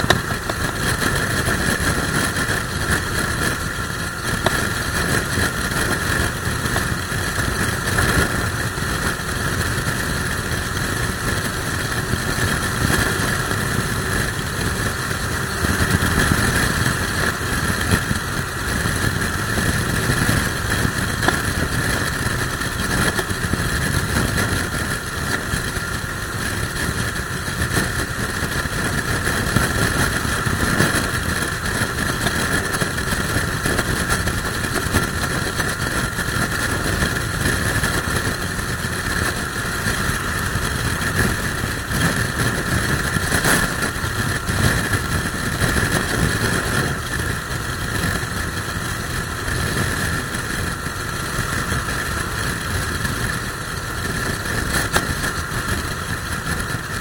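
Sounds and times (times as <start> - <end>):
motorcycle engine running: 0.0 - 57.0
wind rushing on microphone: 0.0 - 57.0.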